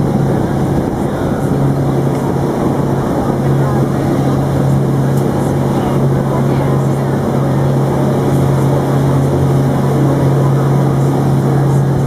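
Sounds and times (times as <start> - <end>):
boat engine humming: 0.0 - 12.0
water rushing: 0.0 - 12.0.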